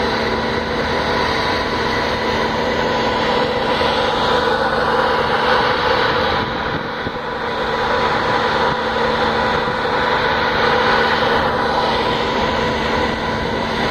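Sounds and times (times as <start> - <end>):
ferry engines humming: 0.0 - 13.9.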